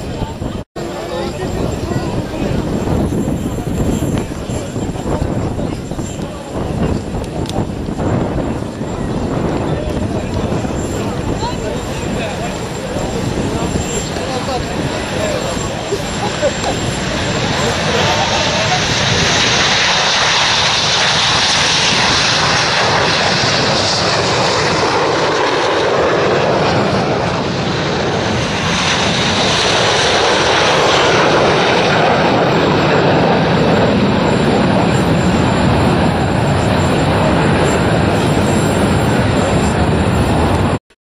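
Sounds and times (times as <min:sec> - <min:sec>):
jet aircraft flying by: 0:00.0 - 0:40.8.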